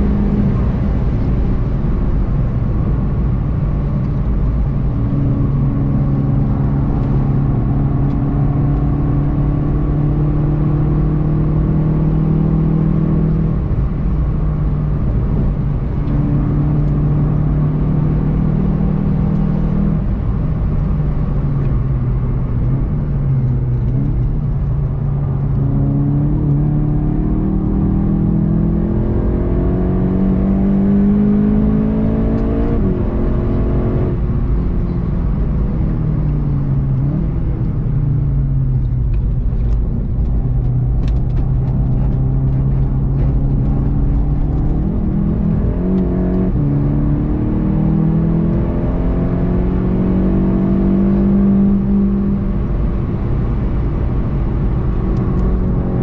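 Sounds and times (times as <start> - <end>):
car engine running at speed: 0.0 - 56.0
tyre and road noise: 0.0 - 56.0.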